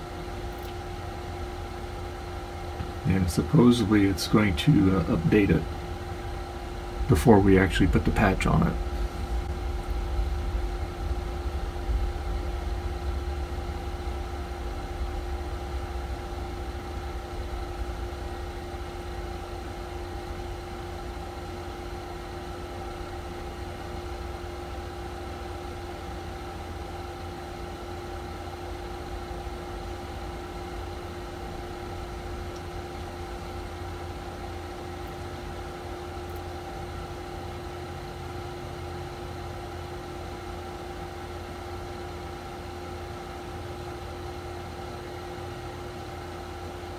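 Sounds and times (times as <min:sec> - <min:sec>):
mechanical hum: 0:00.0 - 0:46.9.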